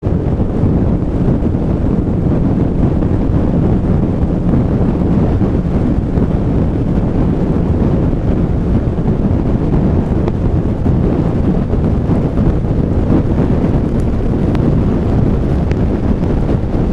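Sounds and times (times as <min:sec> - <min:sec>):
wind noise: 0:00.0 - 0:16.9.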